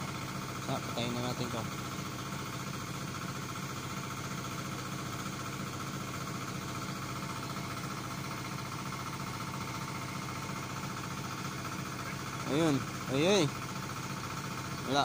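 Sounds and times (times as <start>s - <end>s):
small generator engine running: 0.0s - 15.0s.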